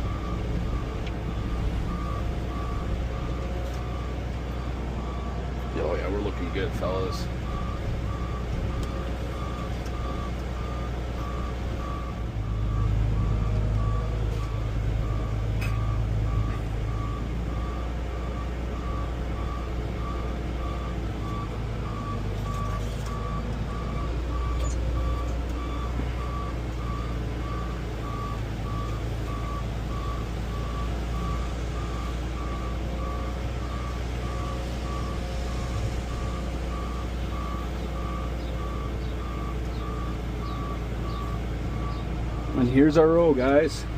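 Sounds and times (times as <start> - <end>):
backup alarm beeping: 0.0 - 43.8
low engine drone: 0.0 - 43.9.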